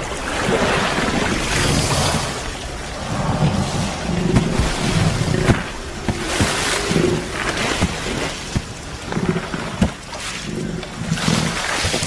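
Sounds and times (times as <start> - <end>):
water splashing and churning: 0.0 - 12.0
wind rumbling on microphone: 0.0 - 12.0.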